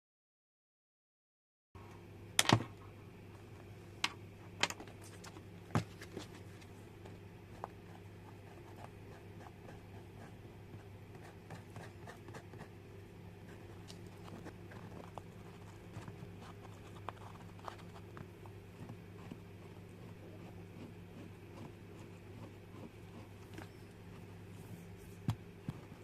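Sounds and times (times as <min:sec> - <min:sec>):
steady low hum: 0:01.8 - 0:26.0.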